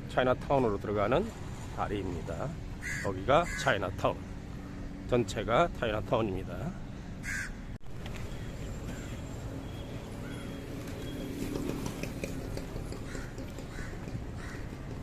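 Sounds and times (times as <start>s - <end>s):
street noise rumble and hiss: 0.0s - 15.0s.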